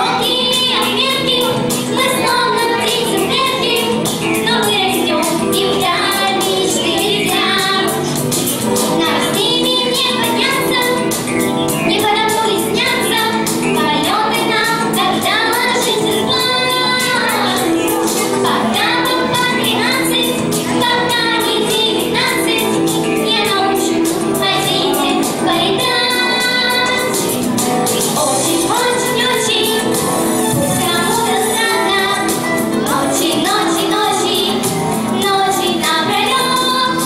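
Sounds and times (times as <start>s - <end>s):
backing track with steady beat: 0.0s - 37.0s
girls singing together: 0.0s - 37.0s.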